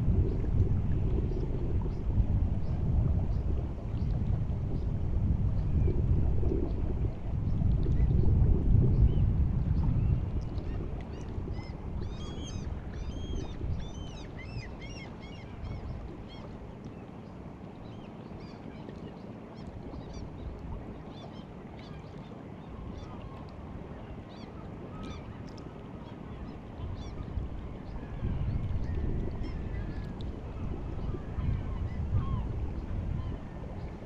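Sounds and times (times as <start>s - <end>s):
sea water washing: 0.0s - 34.0s.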